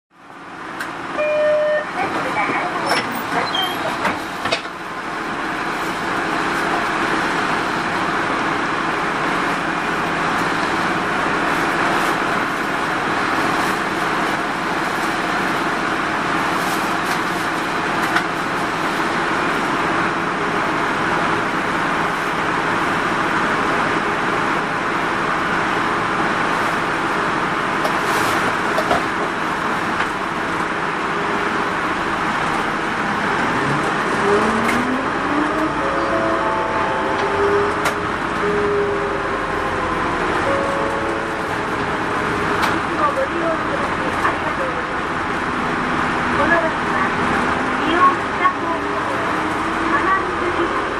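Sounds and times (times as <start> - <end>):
diesel engine idling: 4.3 - 50.9.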